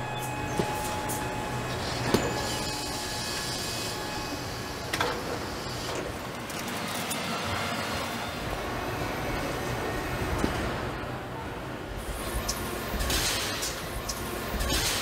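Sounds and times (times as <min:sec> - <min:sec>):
assembly line machinery hum: 0:00.0 - 0:15.0.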